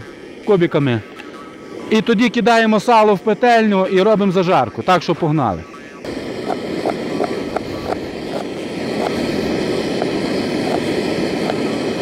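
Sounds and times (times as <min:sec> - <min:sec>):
gas burner hissing: 0:00.0 - 0:12.0.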